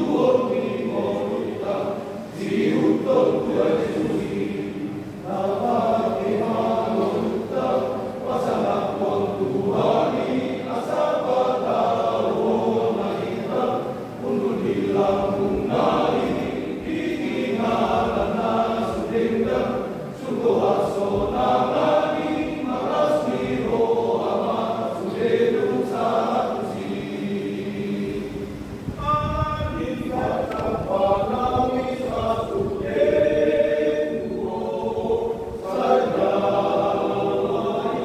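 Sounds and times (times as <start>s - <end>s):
men's choir singing: 0.0s - 38.0s.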